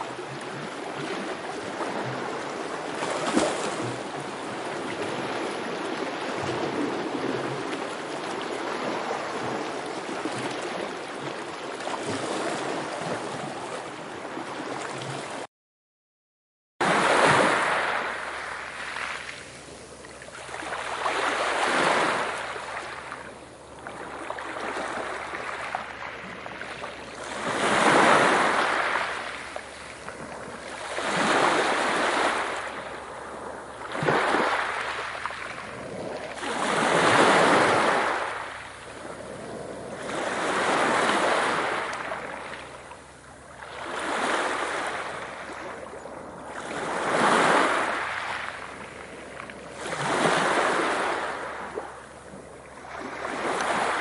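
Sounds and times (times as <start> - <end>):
sea waves breaking: 0.0 - 15.5, 16.8 - 54.0.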